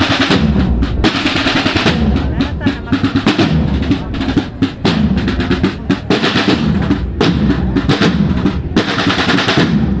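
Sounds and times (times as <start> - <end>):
bass drum beats: 0.0 - 10.0
snare drum rolls: 0.0 - 10.0.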